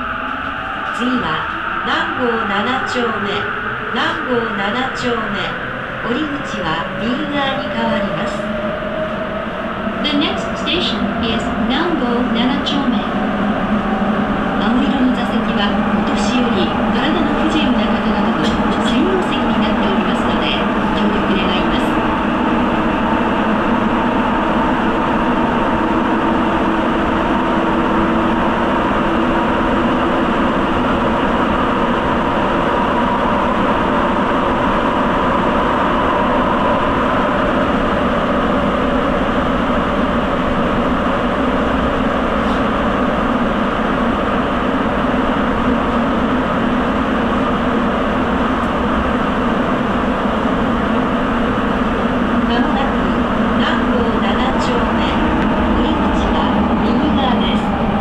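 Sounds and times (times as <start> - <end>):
subway train running in tunnel: 0.0 - 58.0.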